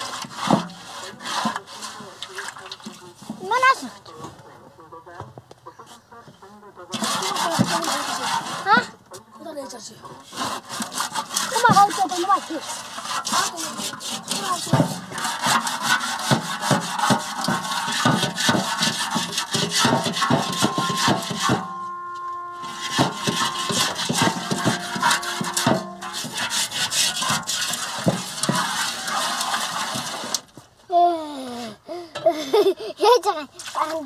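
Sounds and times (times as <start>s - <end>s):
hands scrubbing a basin: 0.0s - 4.2s, 6.9s - 30.7s, 32.2s - 34.0s.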